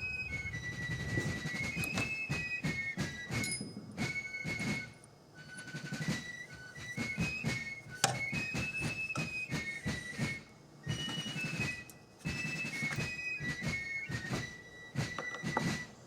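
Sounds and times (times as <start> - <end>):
whistle-like melody: 0.0 - 16.0.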